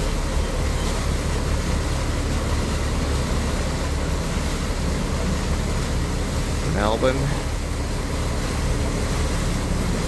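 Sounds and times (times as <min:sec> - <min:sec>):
motorboat engine rumble: 0:00.0 - 0:10.0
rushing water: 0:00.0 - 0:10.0.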